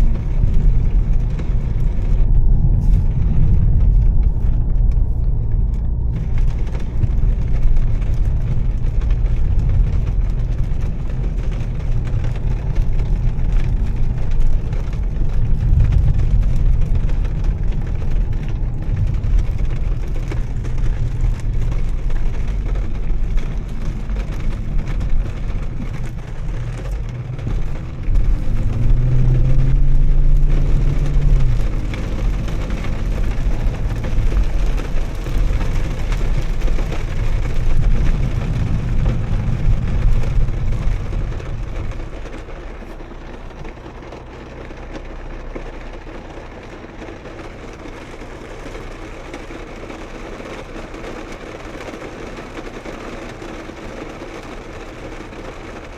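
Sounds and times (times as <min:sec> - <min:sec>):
car engine accelerating hard: 0:00.0 - 0:55.9.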